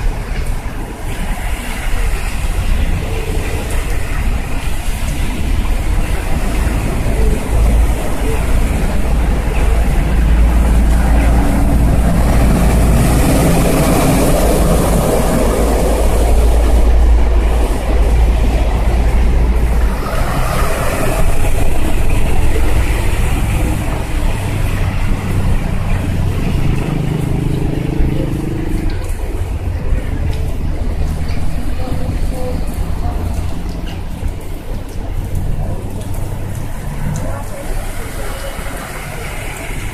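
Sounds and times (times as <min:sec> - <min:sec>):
low traffic rumble: 0:00.0 - 0:39.9
tyres hissing through water: 0:00.0 - 0:39.9.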